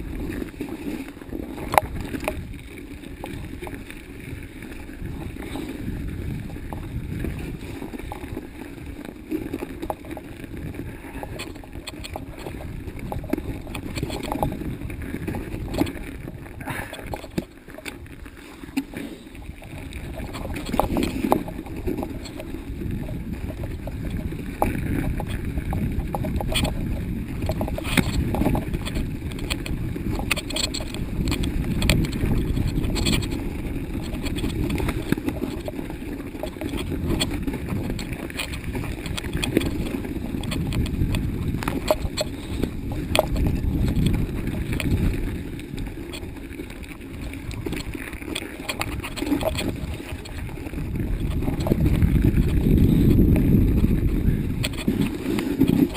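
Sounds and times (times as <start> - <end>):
bike rattling over bumps: 0.0 - 55.9
bike ride rumble: 0.0 - 55.9.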